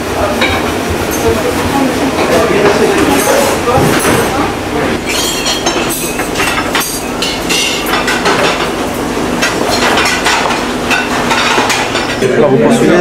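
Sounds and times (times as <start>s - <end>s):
extraction hoods humming: 0.0s - 13.0s
pans and plates clattering: 2.1s - 13.0s.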